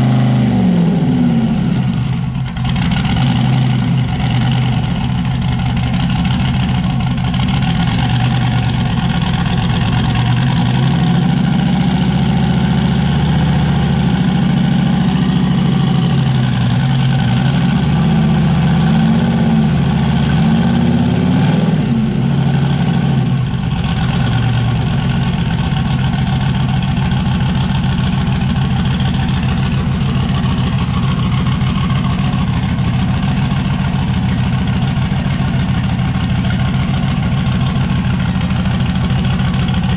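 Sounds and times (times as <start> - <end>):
truck engine idling and revving: 0.0 - 39.9.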